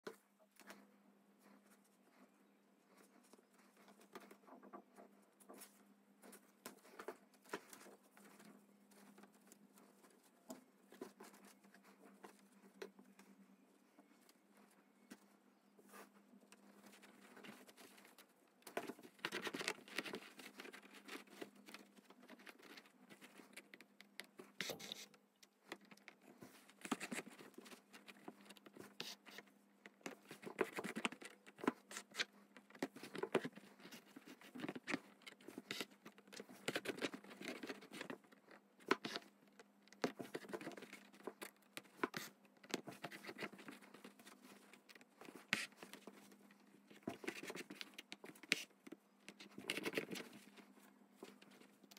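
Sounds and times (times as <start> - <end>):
needle and thread through fabric: 0.0 - 51.9.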